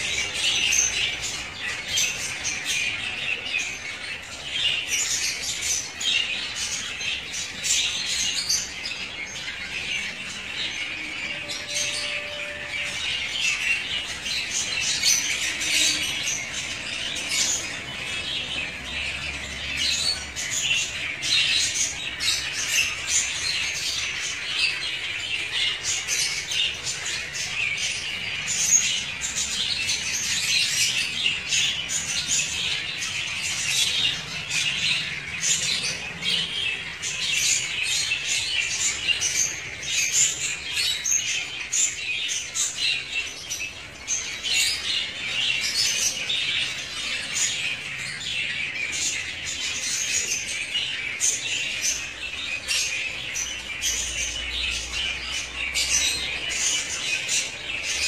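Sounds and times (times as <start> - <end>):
birds chattering and squawking: 0.0 - 58.0.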